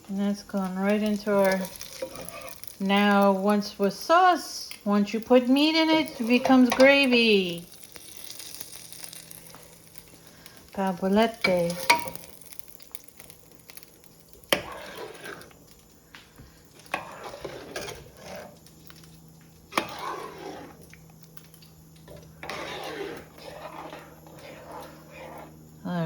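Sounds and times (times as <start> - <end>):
utensil scraping a pot: 0.0 - 4.3, 4.9 - 15.6, 16.7 - 21.0, 22.0 - 25.8
faint sizzle: 0.0 - 26.0.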